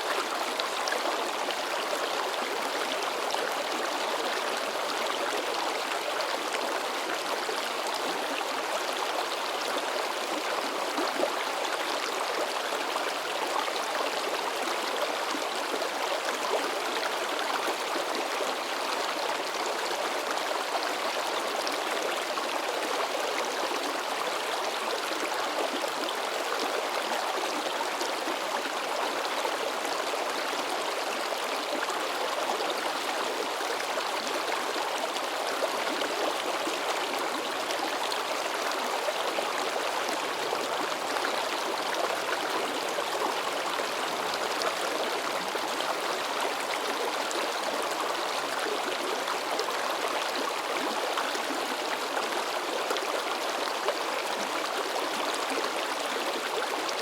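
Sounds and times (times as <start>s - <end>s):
river babbling over rocks: 0.0s - 57.0s.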